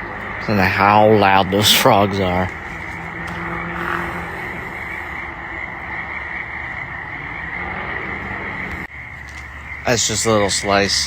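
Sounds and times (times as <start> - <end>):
chorus of frogs calling: 0.0 - 11.0.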